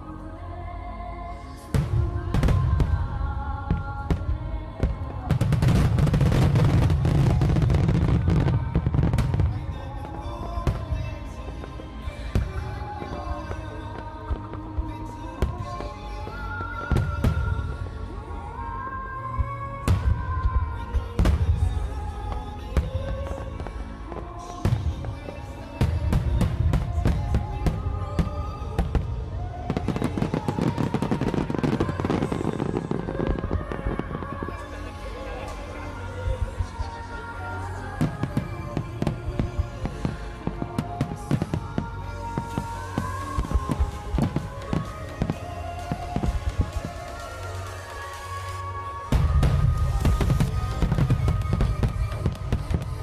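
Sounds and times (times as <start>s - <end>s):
background music: 0.0s - 53.0s
fireworks bangs and crackling: 1.7s - 17.8s, 19.8s - 35.7s, 38.0s - 53.0s.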